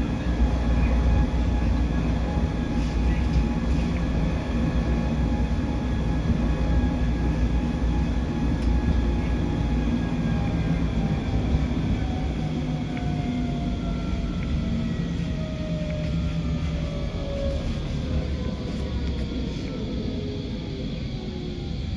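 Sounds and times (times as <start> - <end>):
railway car low rumble: 0.0 - 21.9.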